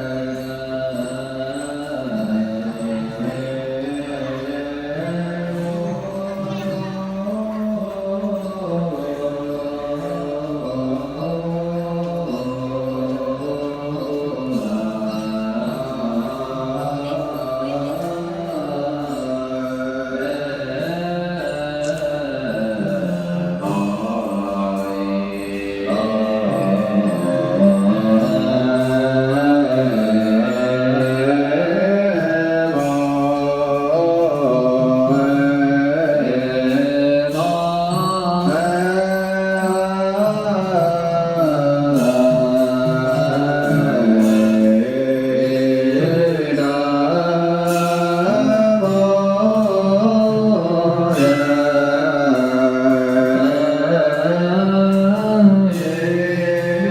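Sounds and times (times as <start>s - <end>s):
chant-like sung melody: 0.0s - 56.9s.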